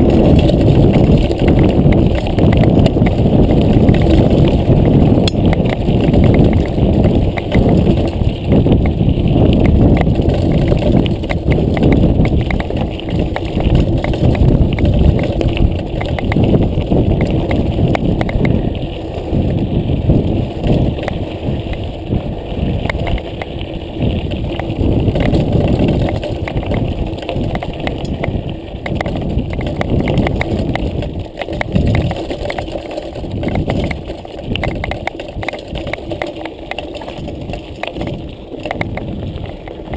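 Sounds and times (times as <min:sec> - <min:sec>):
bike rattling and knocking: 0:00.0 - 0:39.9
bike tyres crunching gravel: 0:00.0 - 0:39.9.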